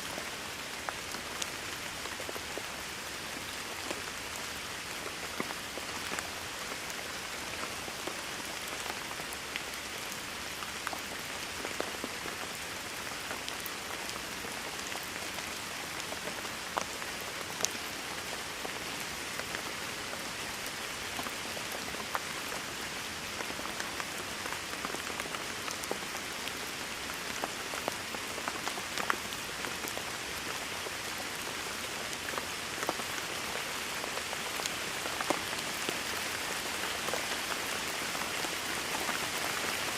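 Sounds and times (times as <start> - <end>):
raindrops ticking close by: 0.0 - 39.9.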